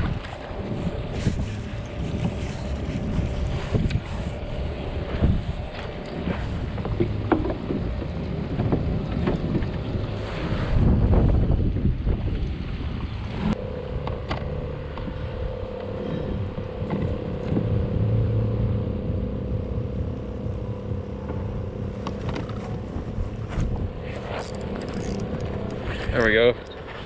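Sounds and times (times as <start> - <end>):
boat motor humming: 0.0 - 27.0
water rumble: 0.0 - 27.0
wind: 0.0 - 27.0.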